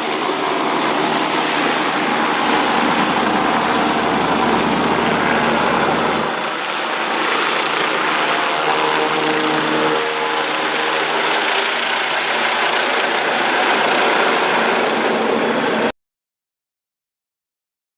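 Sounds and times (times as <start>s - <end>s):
helicopter engine and rotor: 0.0s - 15.9s.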